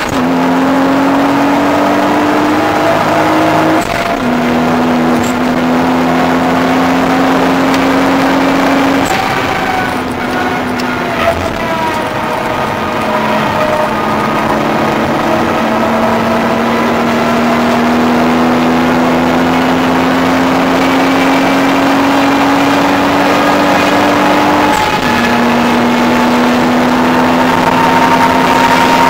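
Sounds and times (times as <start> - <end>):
car engine revving under load: 0.0 - 29.0.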